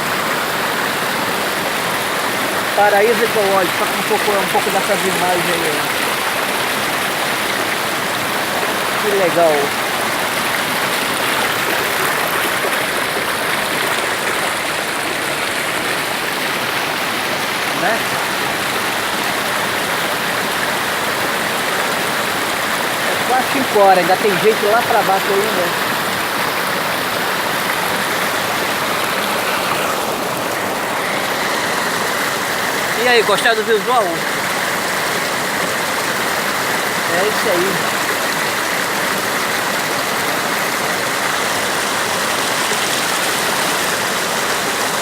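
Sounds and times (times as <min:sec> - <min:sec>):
waterfall rushing over rocks: 0:00.0 - 0:45.0.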